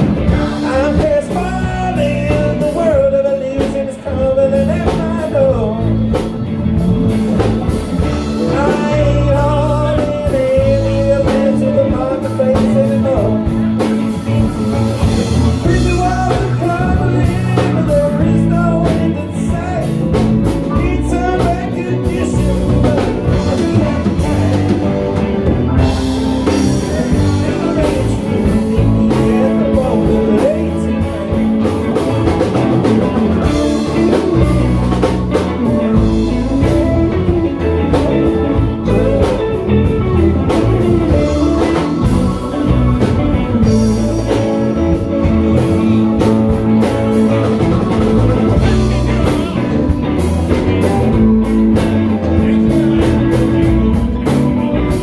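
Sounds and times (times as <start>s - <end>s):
drum kit: 0.0s - 55.0s
guitar: 0.0s - 55.0s
live band playing: 0.0s - 55.0s.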